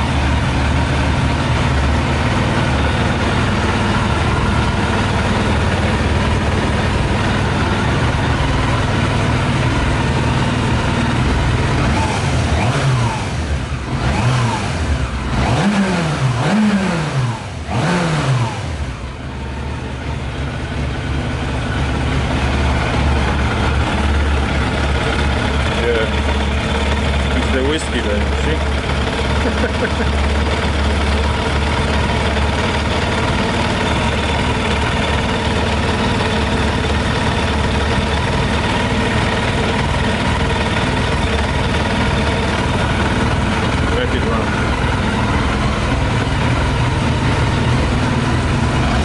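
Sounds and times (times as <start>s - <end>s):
motorcycle engine idling and revving: 0.0s - 49.0s.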